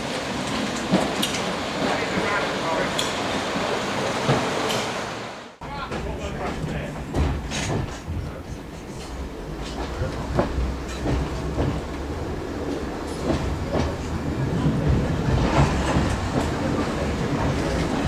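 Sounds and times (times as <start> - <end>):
wheels clicking over rail joints: 0.2 - 3.3, 5.8 - 18.0.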